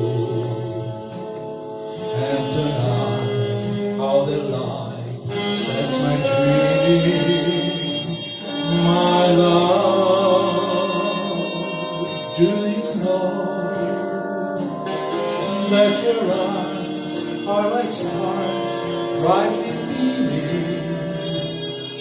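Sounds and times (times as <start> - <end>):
instrumental accompaniment: 0.0 - 22.0
man singing into a microphone: 0.0 - 22.0.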